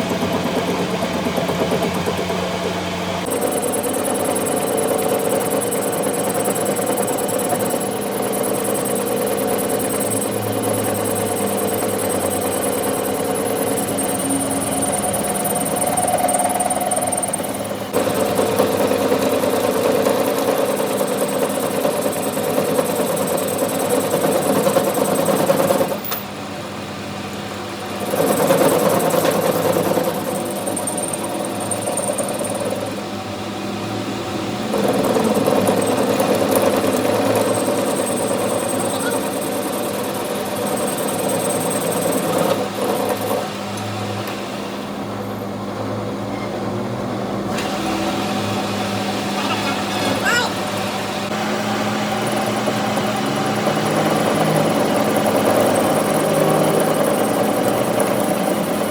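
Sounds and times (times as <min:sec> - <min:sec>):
workshop machine humming: 0:00.0 - 0:58.9.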